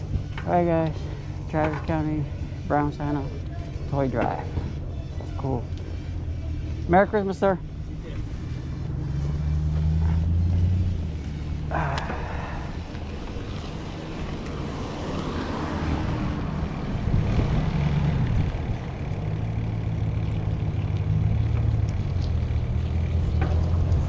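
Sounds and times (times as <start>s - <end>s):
vehicle engines running: 0.0s - 24.0s.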